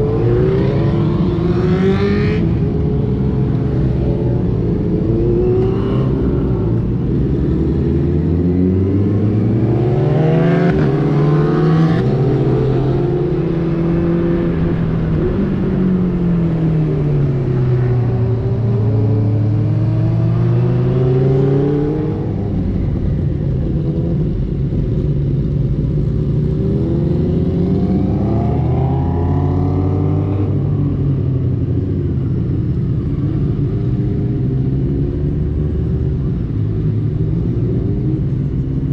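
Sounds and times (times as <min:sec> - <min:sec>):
motorcycle engine revving: 0:00.0 - 0:31.3.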